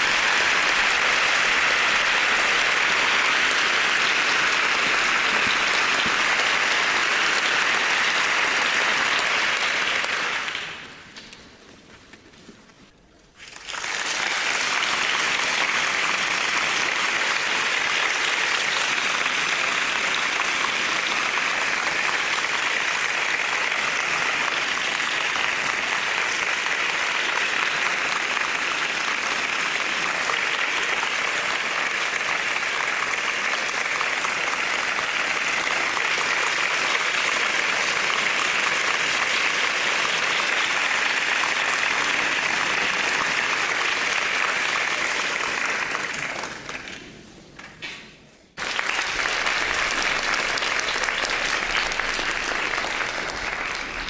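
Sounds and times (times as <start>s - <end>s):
audience applauding: 0.0s - 11.3s, 13.4s - 54.0s.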